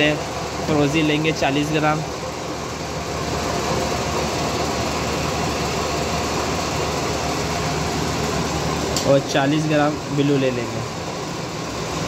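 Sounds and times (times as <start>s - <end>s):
machinery hum and hiss: 0.0s - 12.0s.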